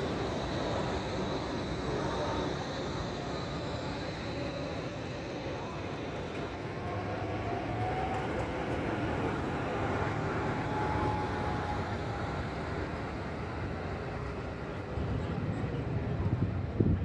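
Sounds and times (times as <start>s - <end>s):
tram wheels rumbling on rails: 0.0s - 17.0s.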